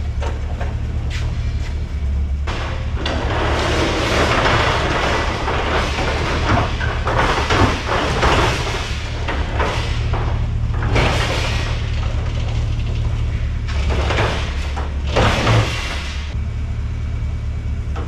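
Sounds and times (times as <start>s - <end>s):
rattling and scraping: 0.0s - 16.4s
steady low hum: 0.0s - 18.0s.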